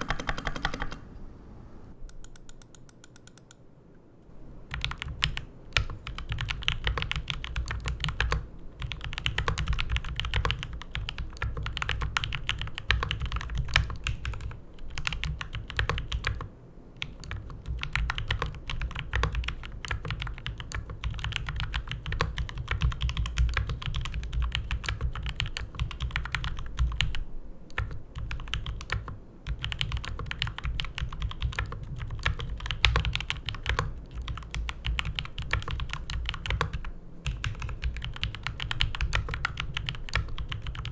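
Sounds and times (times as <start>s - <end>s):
mechanical keyboard typing: 0.0s - 1.1s, 4.7s - 40.9s.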